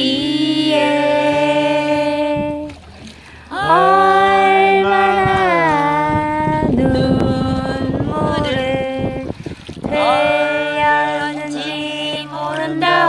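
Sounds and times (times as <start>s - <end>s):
couple singing unaccompanied: 0.0s - 2.8s, 3.5s - 13.0s.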